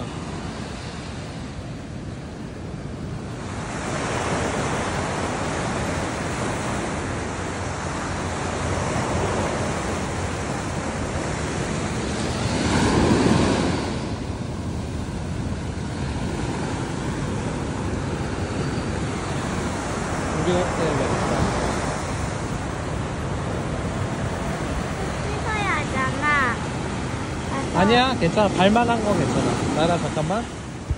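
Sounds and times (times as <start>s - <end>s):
sea waves on sandy shore: 0.0s - 30.9s.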